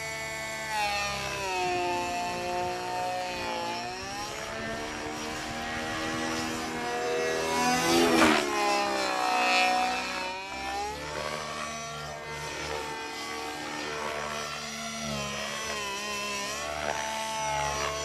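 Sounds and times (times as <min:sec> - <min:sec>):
model helicopter engine and rotors: 0:00.0 - 0:18.0.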